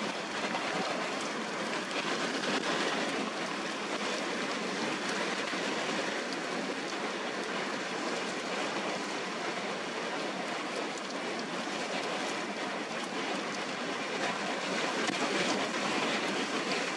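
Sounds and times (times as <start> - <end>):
raindrop ticks: 0.0 - 16.9
wind and rain rushing: 0.0 - 16.9.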